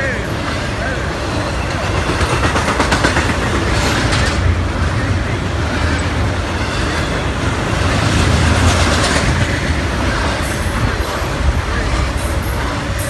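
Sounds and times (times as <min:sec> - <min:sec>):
freight cars rumbling on rails: 0:00.0 - 0:13.0
rattling freight cars: 0:00.0 - 0:13.0.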